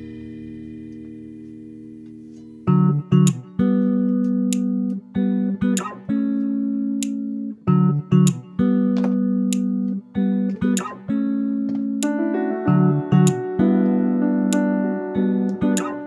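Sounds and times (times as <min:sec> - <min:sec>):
plucked guitar melody: 0:00.0 - 0:16.0.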